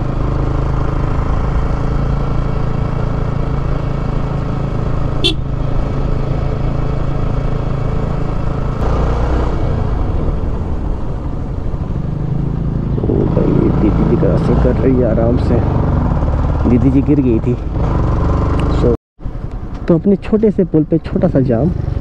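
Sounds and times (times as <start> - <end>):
motorcycle engine cruising: 0.0 - 20.3, 21.1 - 22.0
wind and road noise: 0.0 - 22.0.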